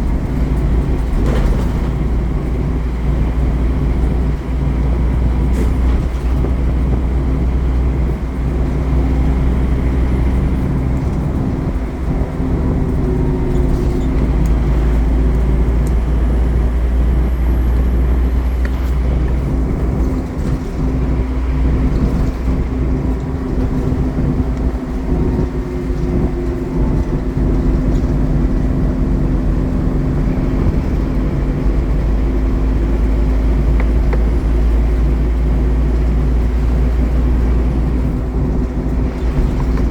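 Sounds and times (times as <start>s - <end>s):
body rattles and clicks: 0.0s - 39.9s
diesel bus engine droning: 0.0s - 39.9s.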